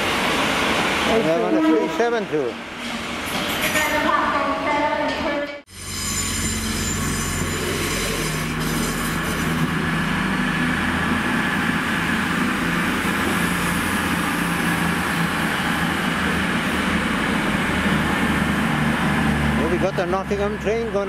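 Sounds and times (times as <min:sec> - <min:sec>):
diesel train engines humming: 0:00.0 - 0:21.0.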